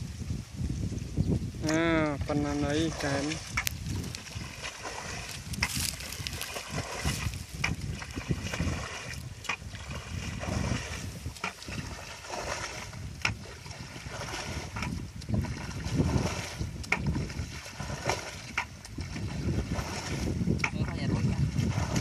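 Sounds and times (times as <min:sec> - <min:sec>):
bucket scooping and splashing water: 0:02.3 - 0:22.0.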